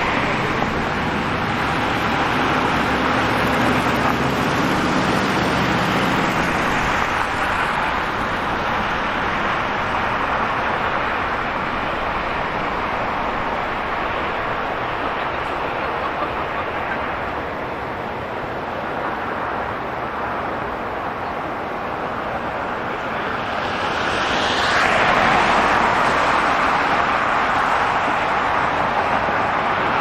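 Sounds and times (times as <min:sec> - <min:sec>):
passing cars and tyre noise: 0:00.0 - 0:30.0
vehicle engine hum: 0:00.0 - 0:30.0.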